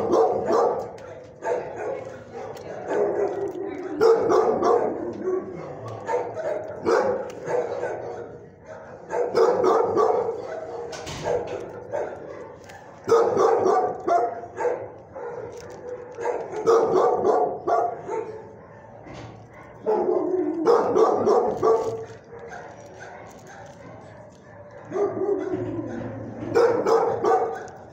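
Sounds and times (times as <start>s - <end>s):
dogs barking: 0.0s - 27.9s.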